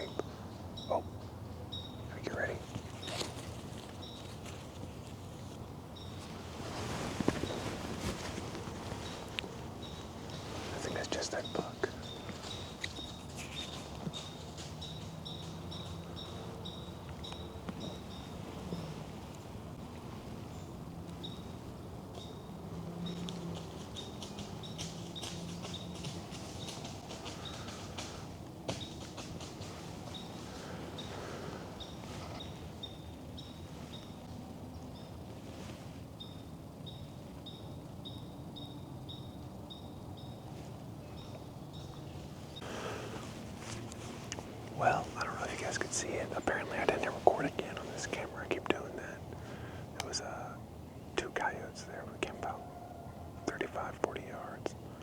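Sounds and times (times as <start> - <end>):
faint low hum: 0.0 - 55.0
low steady hiss: 0.0 - 55.0.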